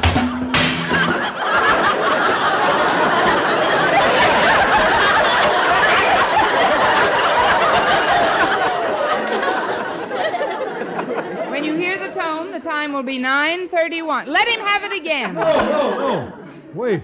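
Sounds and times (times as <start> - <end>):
audience laughing: 0.0 - 12.6, 14.5 - 16.6.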